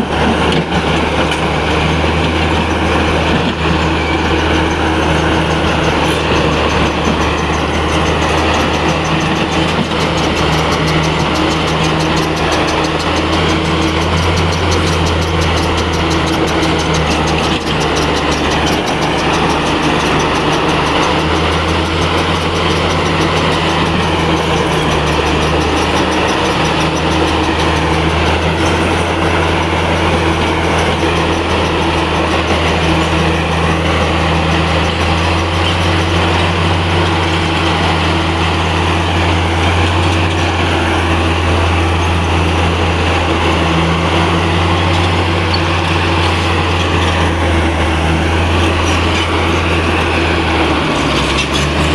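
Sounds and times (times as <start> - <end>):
bulldozer diesel engine humming: 0.0 - 51.9.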